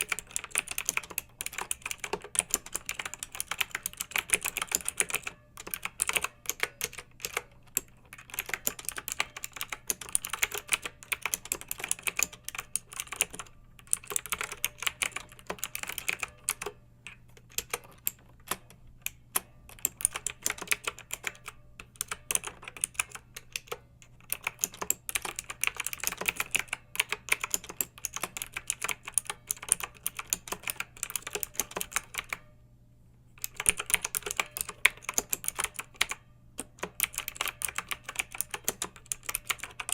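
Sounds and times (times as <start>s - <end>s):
mechanical keyboard typing: 0.0s - 32.5s, 33.4s - 39.9s.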